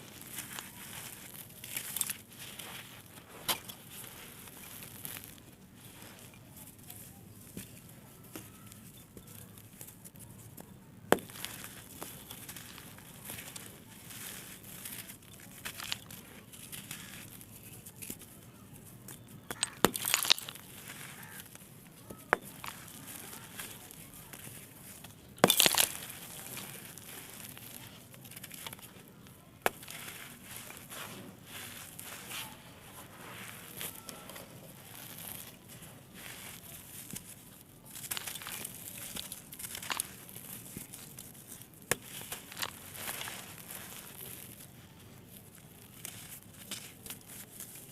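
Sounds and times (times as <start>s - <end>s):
dried clay blocks crushed: 0.0s - 47.9s.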